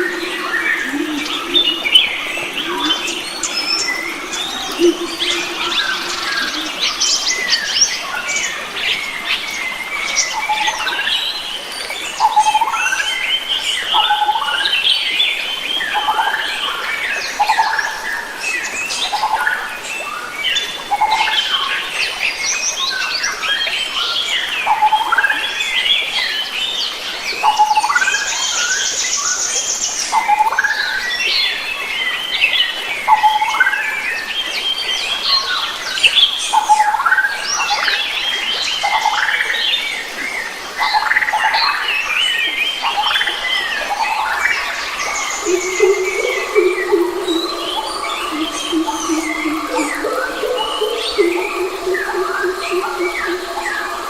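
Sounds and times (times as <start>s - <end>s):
forest birds chirping and singing: 0.0s - 54.0s.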